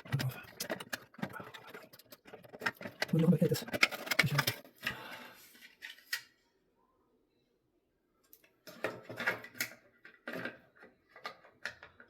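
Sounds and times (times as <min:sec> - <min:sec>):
plastic parts clicking and knocking: 0:00.0 - 0:06.4, 0:08.2 - 0:12.0.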